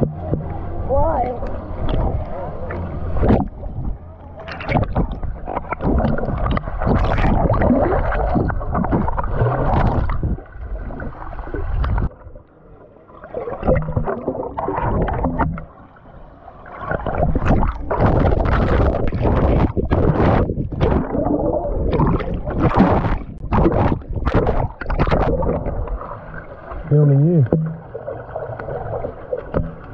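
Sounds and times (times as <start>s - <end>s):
pool water sloshing and splashing: 0.0s - 29.9s.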